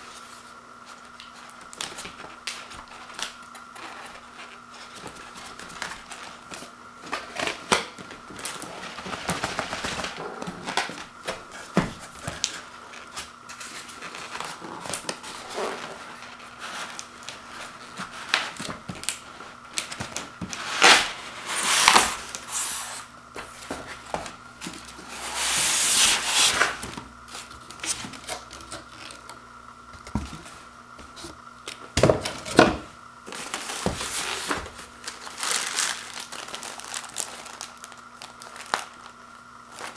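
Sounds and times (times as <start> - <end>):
cardboard and foam rustling: 0.0 - 29.3, 30.0 - 31.4, 32.0 - 39.9
faint steady hum: 0.0 - 39.9.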